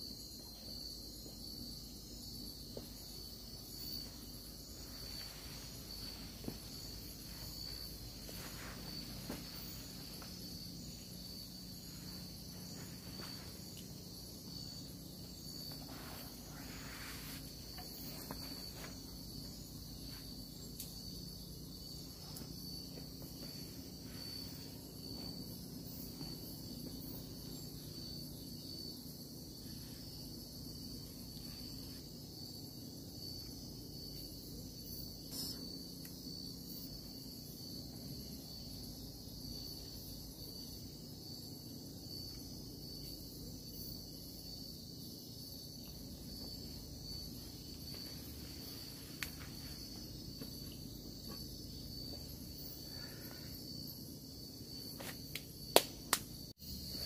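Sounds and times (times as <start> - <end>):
night insects chirring: 0.0 - 57.0.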